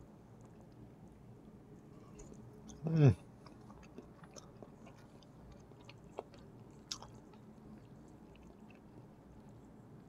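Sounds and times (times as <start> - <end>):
soft chewing: 0.0 - 10.0.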